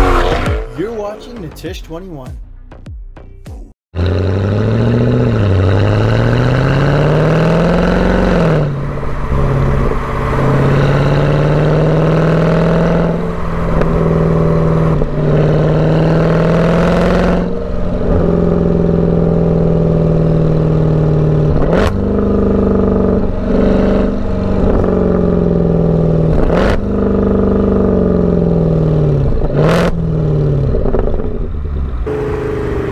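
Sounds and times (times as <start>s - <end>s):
car engine revving: 0.0s - 1.2s, 4.0s - 32.9s
exhaust crack: 4.0s - 32.9s.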